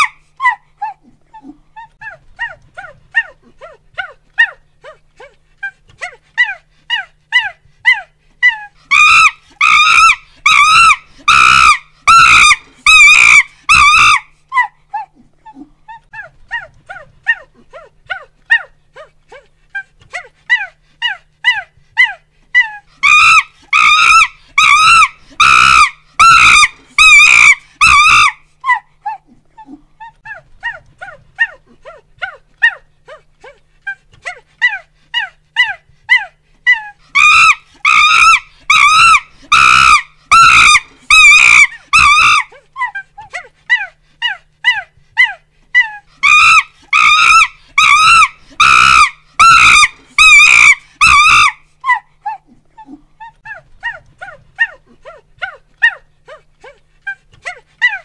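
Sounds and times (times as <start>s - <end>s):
monkey hooting and screaming: 0.0s - 4.6s, 5.6s - 15.2s, 20.1s - 29.3s, 33.8s - 58.0s.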